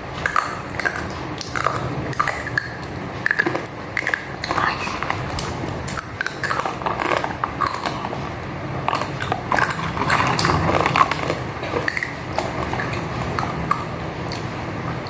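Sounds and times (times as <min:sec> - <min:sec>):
utensils and dishes clinking: 0:00.0 - 0:15.0.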